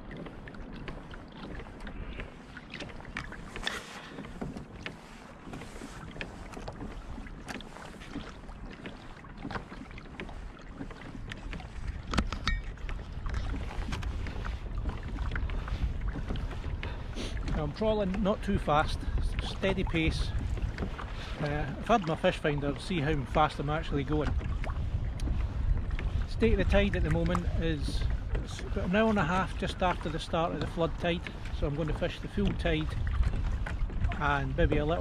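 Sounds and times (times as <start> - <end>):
water lapping against kayak hull: 0.0 - 35.0
wind rumble on microphone: 0.0 - 35.0.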